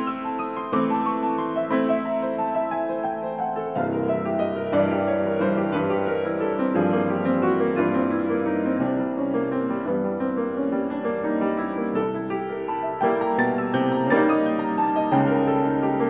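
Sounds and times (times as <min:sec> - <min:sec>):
fast solo piano: 0:00.0 - 0:16.0.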